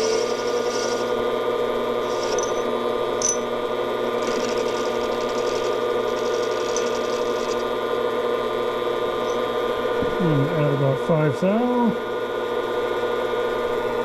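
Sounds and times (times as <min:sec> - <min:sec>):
metal lathe humming: 0:00.0 - 0:14.0.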